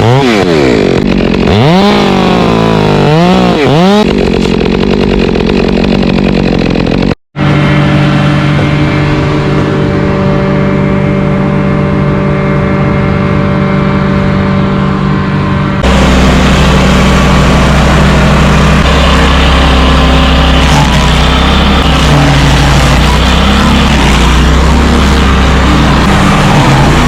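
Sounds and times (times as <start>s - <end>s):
machine engine running: 0.0s - 27.0s
rough engine rumbling: 0.0s - 27.0s.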